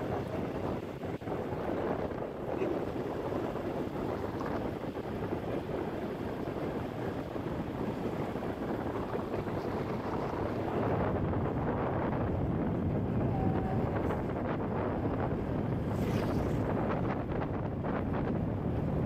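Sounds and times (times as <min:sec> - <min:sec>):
motorcycle road noise: 0:00.0 - 0:19.0
wind rushing over microphone: 0:00.0 - 0:19.0.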